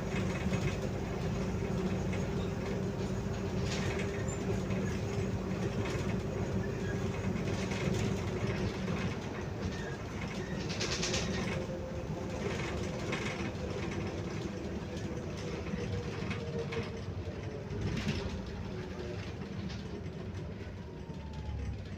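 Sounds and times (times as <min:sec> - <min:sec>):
bus body rattles: 0:00.0 - 0:21.9
bus drivetrain hum: 0:00.0 - 0:21.9
road rumble: 0:00.0 - 0:21.9.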